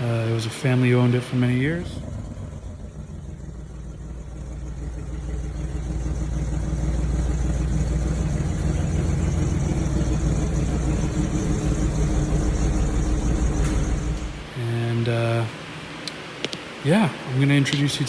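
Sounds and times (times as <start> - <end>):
vehicle engine humming: 0.0 - 14.6.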